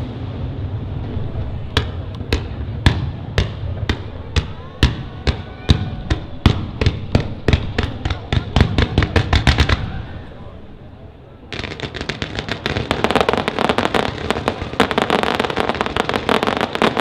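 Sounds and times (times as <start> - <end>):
fireworks bangs: 0.0 - 17.0
murmur of crowd voices: 0.0 - 17.0.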